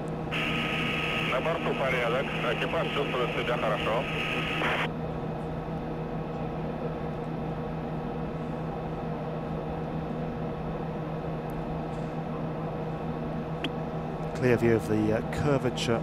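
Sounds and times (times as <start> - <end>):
capsule cabin hum and hiss: 0.0 - 16.0.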